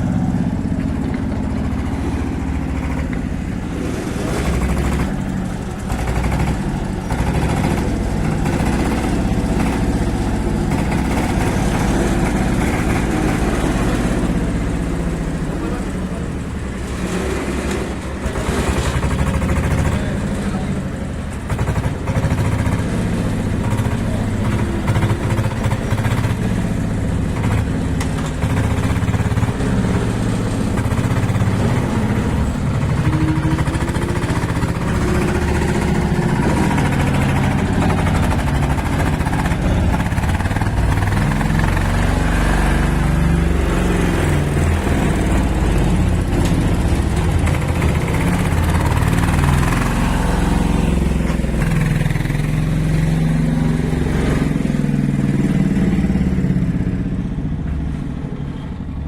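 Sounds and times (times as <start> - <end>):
small diesel engine working: 0.0 - 59.0.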